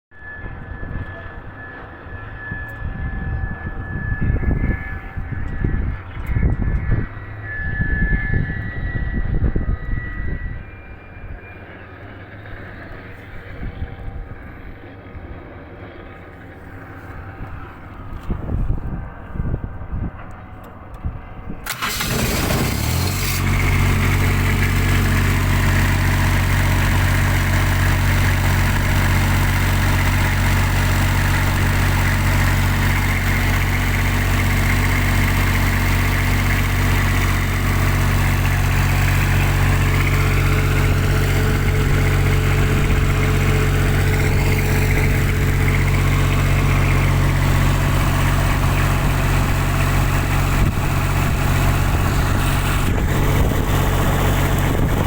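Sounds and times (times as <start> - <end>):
diesel engine running: 0.2 - 55.0.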